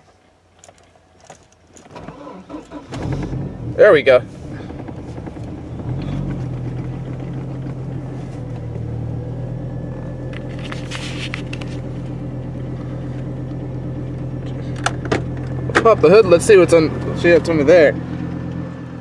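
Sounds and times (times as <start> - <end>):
car engine idling: 1.1 - 19.0.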